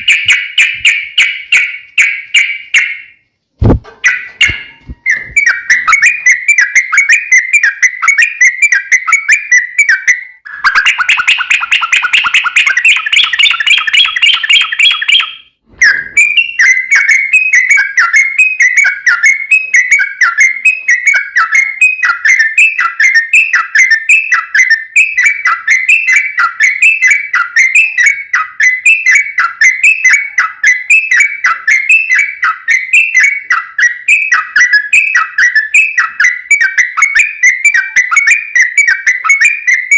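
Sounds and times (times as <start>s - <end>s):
bird song rapid chattering: 0.0s - 39.9s.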